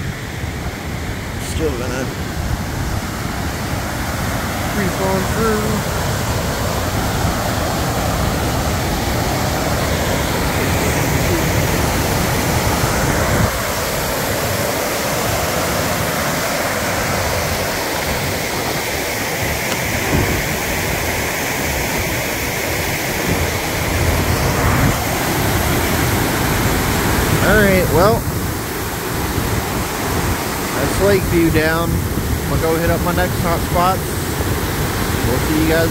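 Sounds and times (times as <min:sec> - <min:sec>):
water rushing over spillway: 0:00.0 - 0:35.9.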